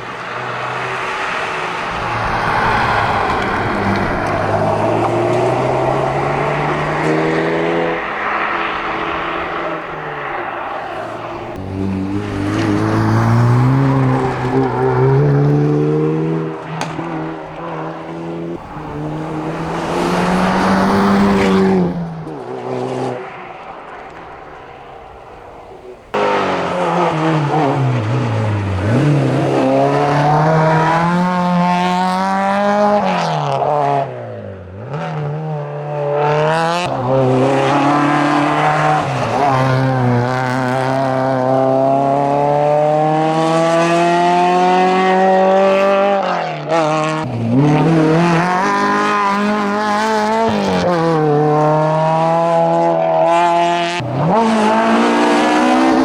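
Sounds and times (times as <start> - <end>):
racing car engine revving: 0.0 - 24.2, 26.1 - 34.2, 34.8 - 56.0.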